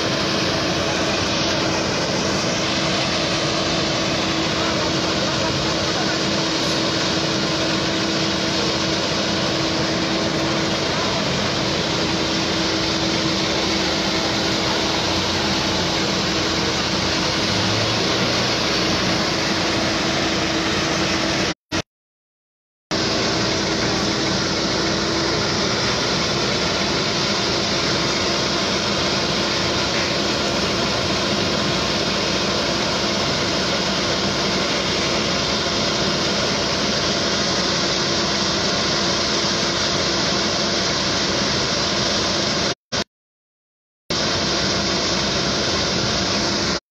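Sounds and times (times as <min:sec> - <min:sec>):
fire engine pumps running: 0:00.0 - 0:21.8, 0:22.9 - 0:43.1, 0:44.1 - 0:46.8.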